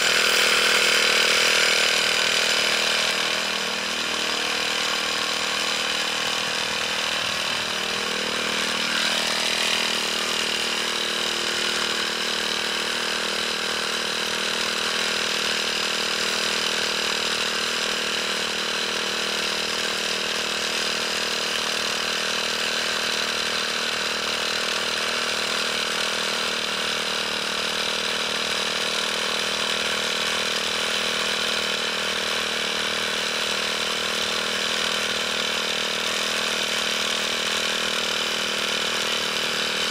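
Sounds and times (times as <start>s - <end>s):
power sprayer engine running: 0.0s - 39.9s.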